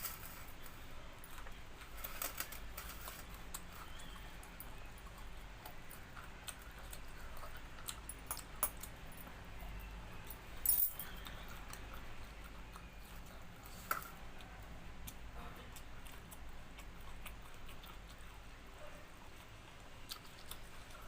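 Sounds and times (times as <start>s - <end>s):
person chewing: 3.0s - 10.3s, 11.1s - 21.0s.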